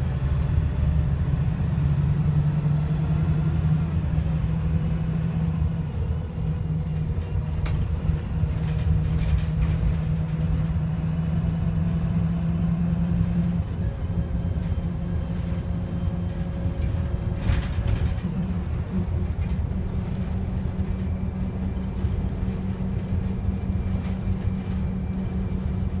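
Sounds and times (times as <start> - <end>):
rough diesel engine drone: 0.0 - 26.0.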